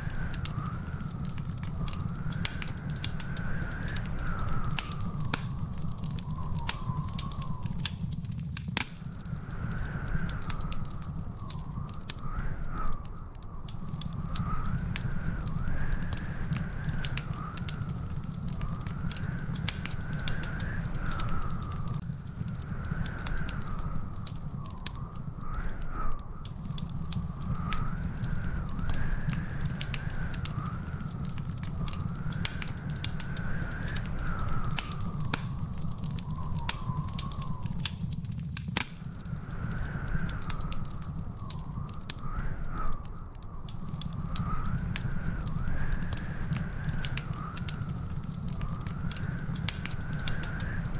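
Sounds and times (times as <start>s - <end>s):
wood fire crackling and popping: 0.0s - 50.9s
thin whistling tone: 1.8s - 8.4s, 9.0s - 22.0s, 22.6s - 38.2s, 39.0s - 50.9s.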